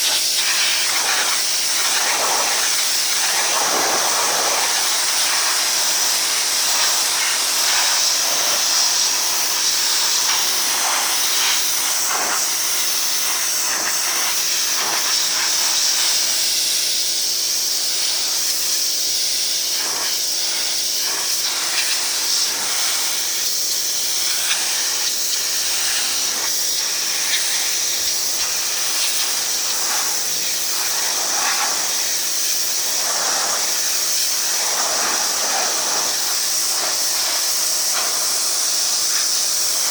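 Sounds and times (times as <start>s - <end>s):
pressure washer water jet hissing: 0.0s - 39.9s.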